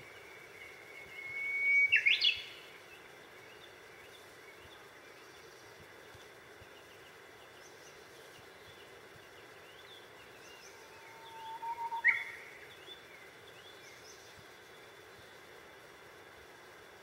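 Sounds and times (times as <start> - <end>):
background hiss: 0.0 - 17.0
faint bird chirps: 0.1 - 15.4.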